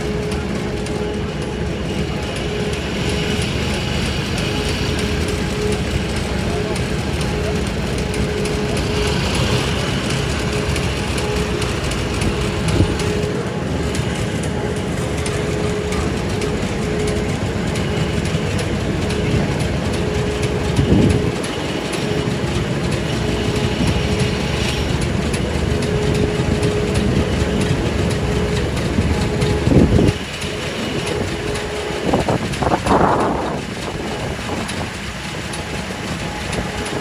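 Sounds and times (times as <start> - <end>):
street traffic engines: 0.0 - 37.0.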